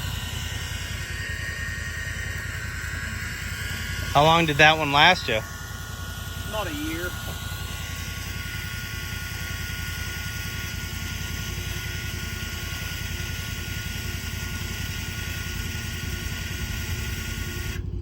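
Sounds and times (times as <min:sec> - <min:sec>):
tractor engine rumbling: 0:00.0 - 0:18.0.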